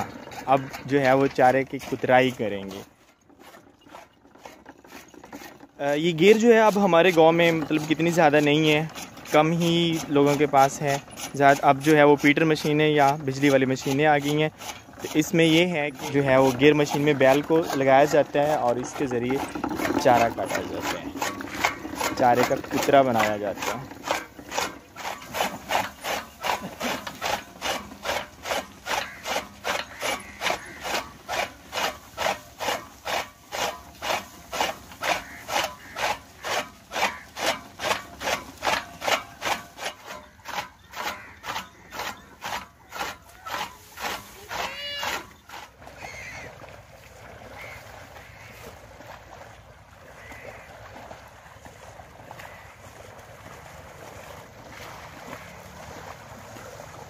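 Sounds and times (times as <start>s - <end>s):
chaff cutter chopping stalks: 0.0s - 46.4s.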